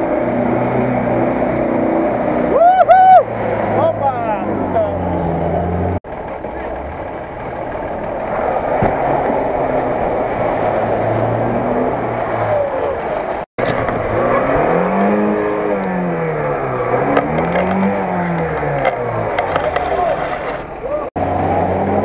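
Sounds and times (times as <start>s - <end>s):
car engine revving in mud: 0.0s - 22.0s
vehicle engines running: 0.0s - 22.0s.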